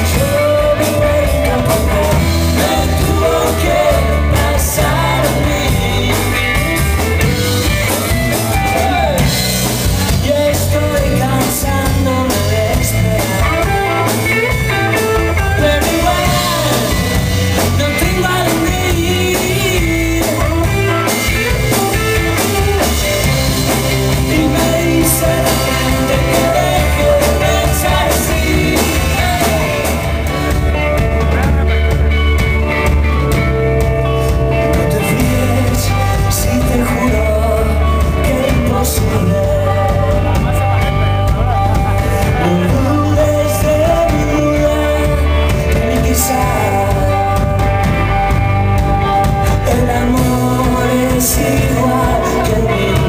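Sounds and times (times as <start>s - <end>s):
drum kit: 0.0s - 53.0s
guitar melody with gliding notes: 0.0s - 53.0s
heavy bass: 0.0s - 53.0s.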